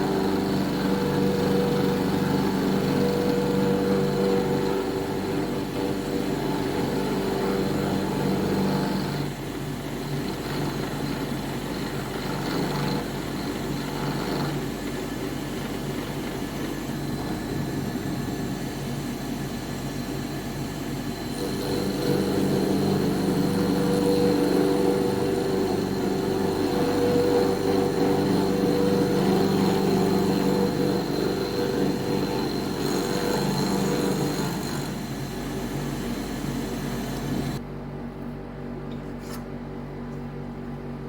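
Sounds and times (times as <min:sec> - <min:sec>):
router motor hum and whine: 0:00.0 - 0:37.6.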